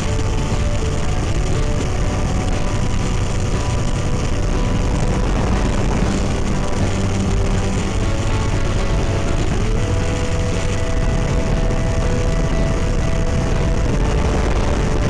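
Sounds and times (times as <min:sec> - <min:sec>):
dense low rumble: 0:00.0 - 0:15.0
model airplane engine: 0:00.0 - 0:15.0.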